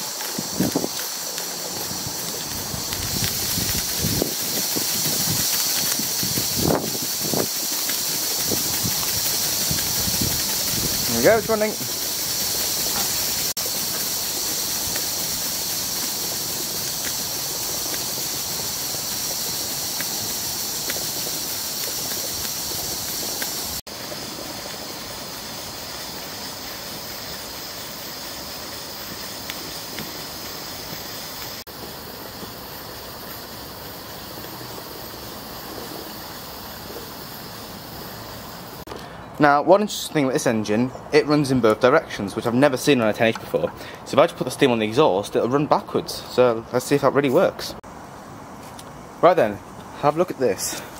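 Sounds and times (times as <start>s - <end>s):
steam engine hissing: 0.0s - 50.9s.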